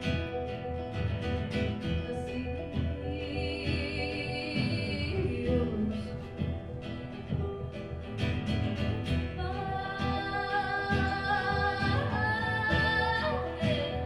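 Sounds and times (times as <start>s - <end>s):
acoustic folk band playing: 0.0s - 14.0s
woman singing: 1.8s - 14.0s.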